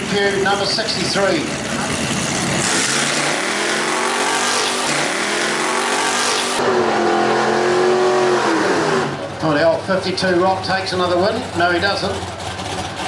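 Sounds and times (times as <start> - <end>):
drag racing car engine accelerating: 0.0 - 13.0.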